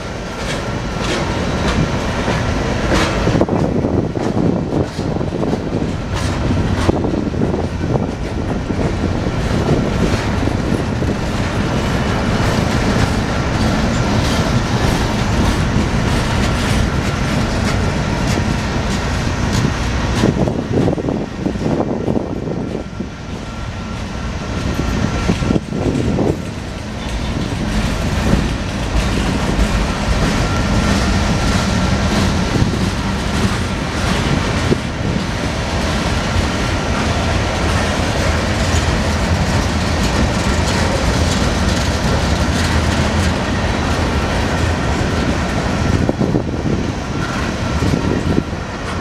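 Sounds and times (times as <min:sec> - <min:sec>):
wheels clicking over rail joints: 0:00.0 - 0:22.8, 0:23.9 - 0:49.0
train wheels rumbling on rail: 0:00.0 - 0:49.0.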